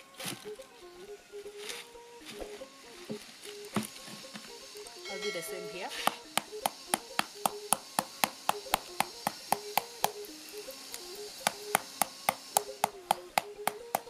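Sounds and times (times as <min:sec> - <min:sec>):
wooden stick beating pineapple: 0:01.5 - 0:14.0.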